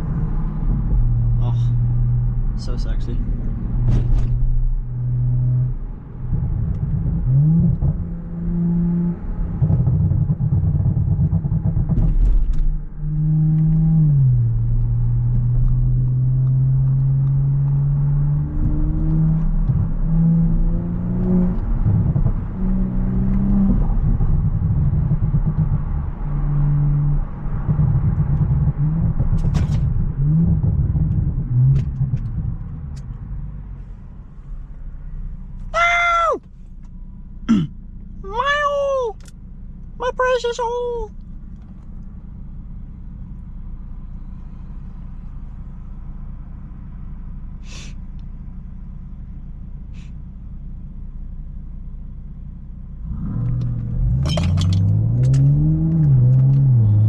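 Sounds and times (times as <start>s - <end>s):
car engine running: 0.0s - 57.0s
road rumble: 0.0s - 57.0s.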